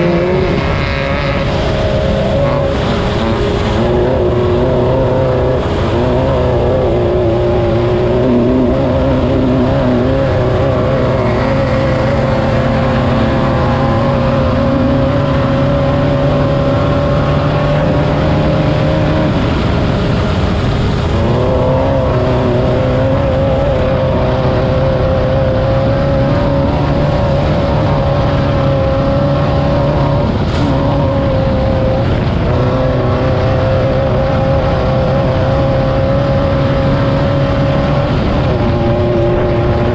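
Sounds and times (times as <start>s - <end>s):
race car engine running hard: 0.0s - 39.9s
road noise: 0.0s - 39.9s.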